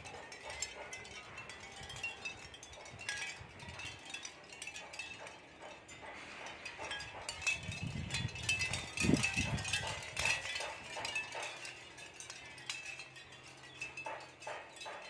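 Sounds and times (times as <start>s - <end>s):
shell wind chime clinking: 0.0s - 15.0s.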